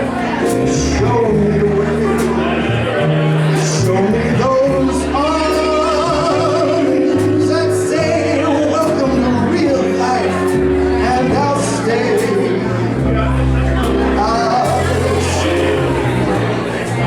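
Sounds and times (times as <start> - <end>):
keyboard melody over bass line: 0.0 - 17.0
person singing: 0.0 - 17.0.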